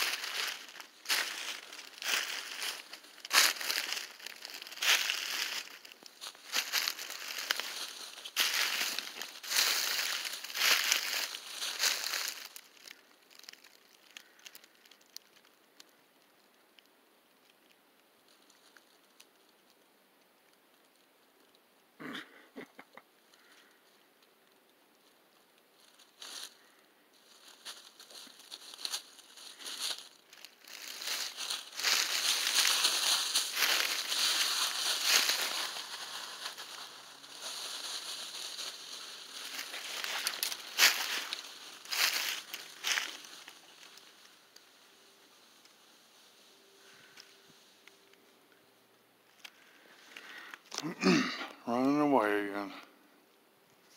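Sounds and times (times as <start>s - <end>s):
dry leaves crackling: 0.0s - 19.9s, 23.2s - 52.7s.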